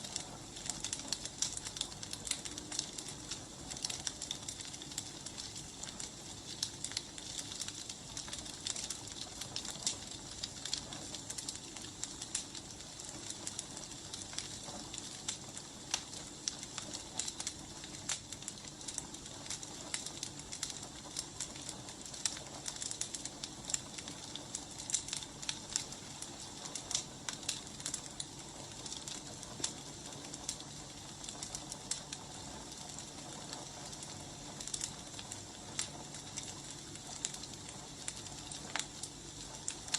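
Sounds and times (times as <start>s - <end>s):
fire snapping and popping: 0.0s - 39.9s
steady fire hiss: 0.0s - 39.9s.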